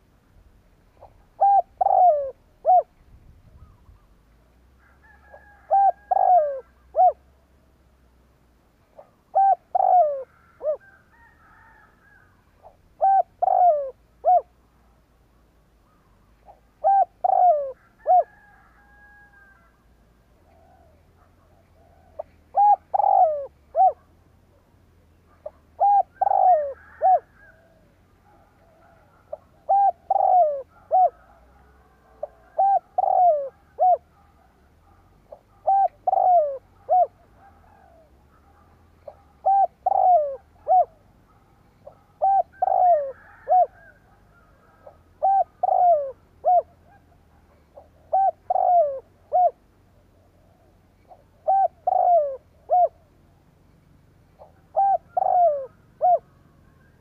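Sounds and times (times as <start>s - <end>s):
dove cooing: 0.9s - 7.3s, 8.9s - 15.0s, 15.8s - 57.0s.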